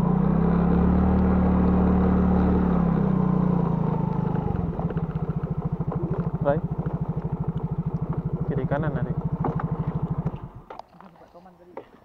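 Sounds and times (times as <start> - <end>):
small motorcycle engine revving: 0.0 - 10.7.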